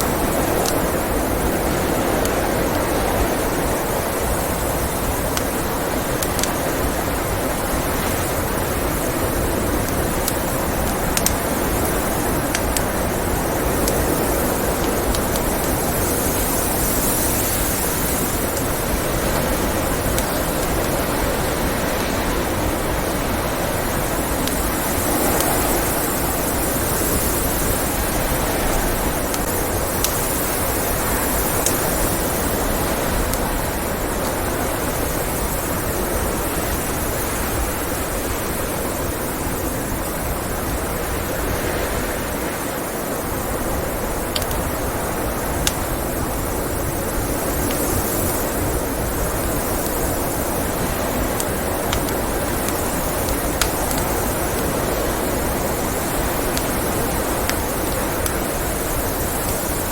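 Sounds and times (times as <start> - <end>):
wood fire crackling: 0.0 - 38.6, 43.2 - 59.9
blizzard wind: 0.0 - 59.9.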